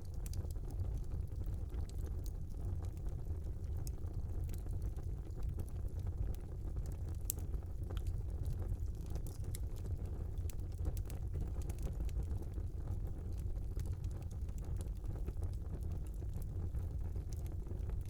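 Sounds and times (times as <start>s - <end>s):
fire crackling and popping: 0.0s - 18.0s
fire rumbling in fireplace: 0.0s - 18.0s.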